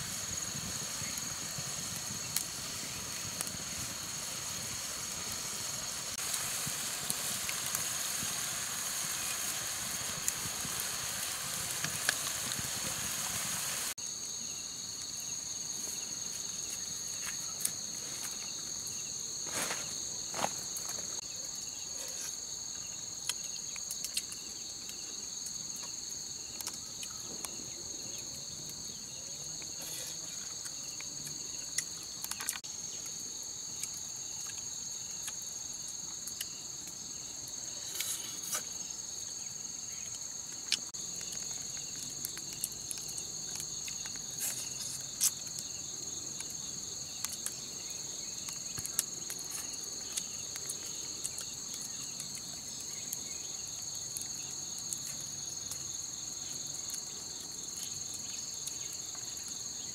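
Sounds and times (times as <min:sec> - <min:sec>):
insects shrilling: 0:00.0 - 0:59.9.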